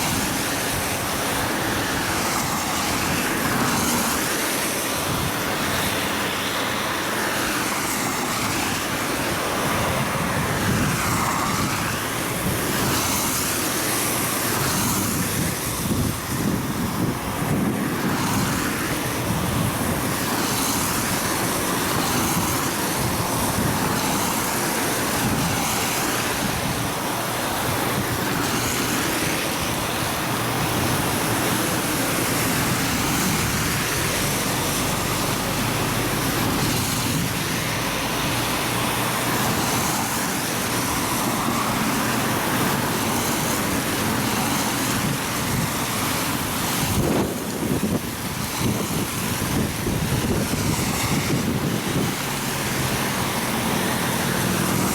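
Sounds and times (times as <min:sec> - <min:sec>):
moving vehicle rumble: 0:00.0 - 0:54.9
wind buffeting microphone: 0:04.9 - 0:06.9, 0:07.7 - 0:54.9.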